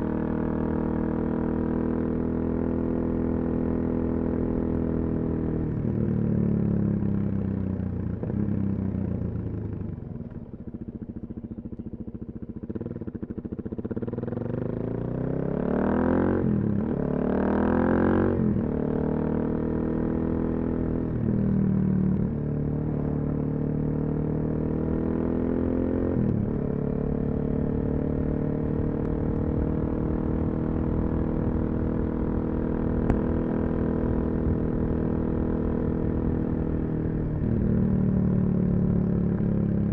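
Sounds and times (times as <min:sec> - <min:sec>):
motorcycle engine revving: 0:06.7 - 0:39.9.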